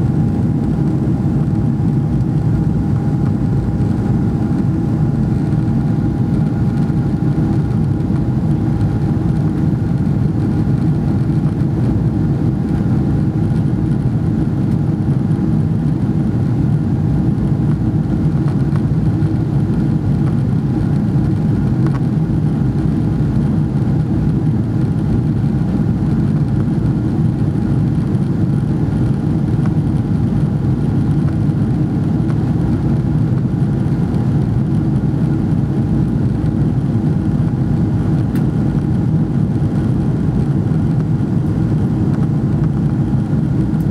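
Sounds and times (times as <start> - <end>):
jet engines droning: 0.0 - 43.9.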